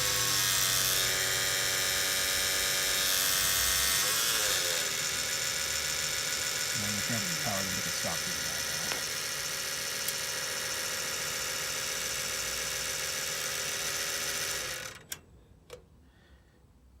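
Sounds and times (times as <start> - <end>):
computer fan whine: 0.0 - 15.1.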